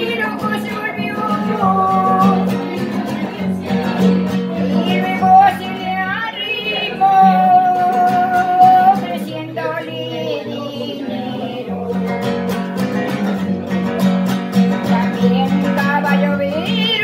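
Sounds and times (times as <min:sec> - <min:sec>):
woman singing: 0:00.0 - 0:13.2, 0:14.7 - 0:17.0
strummed nylon-string guitar: 0:00.0 - 0:17.0.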